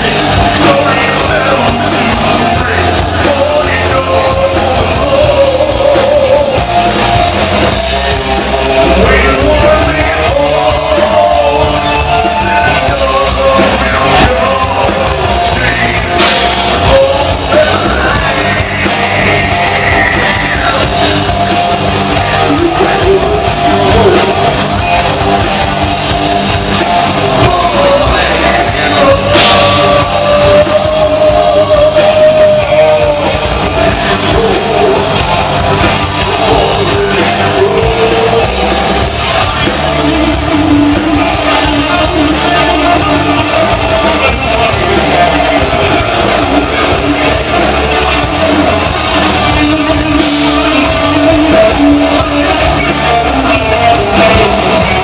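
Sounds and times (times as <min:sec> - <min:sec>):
drum kit: 0:00.0 - 0:55.0
electric bass: 0:00.0 - 0:55.0
electric guitars: 0:00.0 - 0:55.0
man singing: 0:00.0 - 0:55.0.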